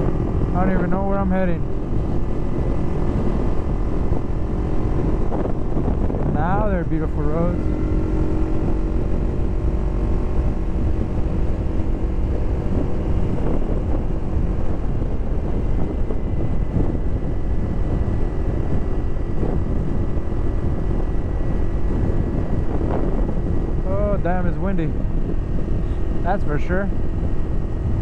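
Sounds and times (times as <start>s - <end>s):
motorcycle engine cruising: 0.0s - 28.0s
wind buffeting microphone: 0.0s - 28.0s.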